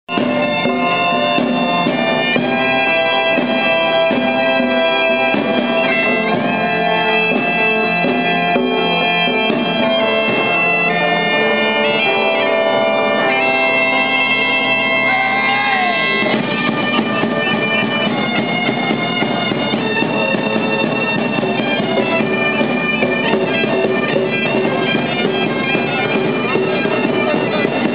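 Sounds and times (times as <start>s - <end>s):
bagpipes playing a tune: 0.1s - 27.9s
drum beating: 0.1s - 27.9s.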